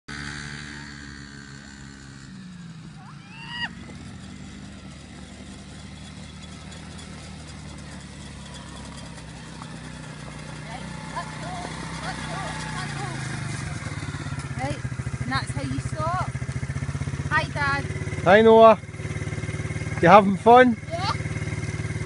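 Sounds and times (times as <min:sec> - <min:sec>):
small engine running: 0:00.1 - 0:22.0.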